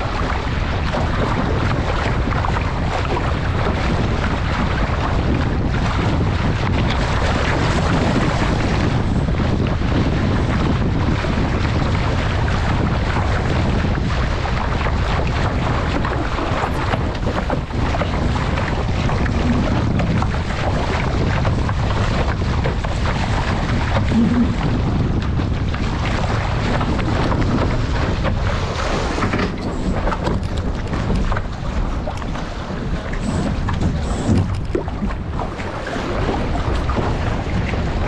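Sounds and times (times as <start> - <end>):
water splashing along hull: 0.0 - 38.0
wind buffeting microphone: 0.0 - 38.0.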